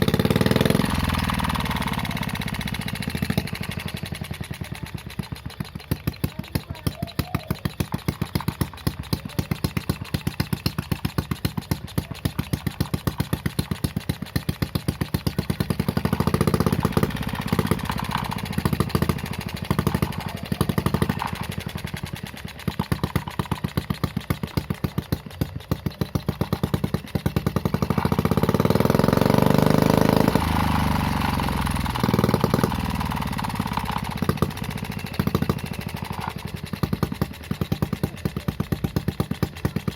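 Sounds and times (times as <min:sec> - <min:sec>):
small engine idling and revving: 0:00.0 - 0:39.9.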